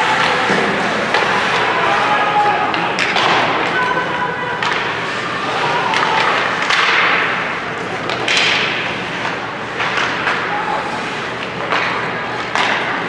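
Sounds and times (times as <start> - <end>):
crowd and player voices: 0.0 - 13.0
hockey sticks knocking puck: 0.0 - 13.0
skates scraping ice: 0.0 - 13.0.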